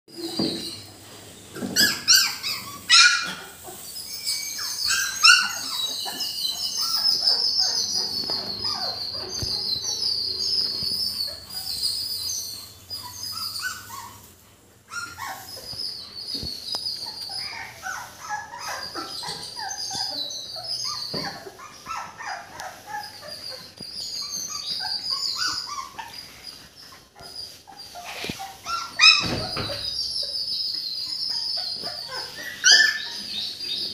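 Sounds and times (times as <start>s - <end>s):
puppies squeaking and whining: 0.1s - 33.9s
puppies yelping: 1.5s - 33.9s.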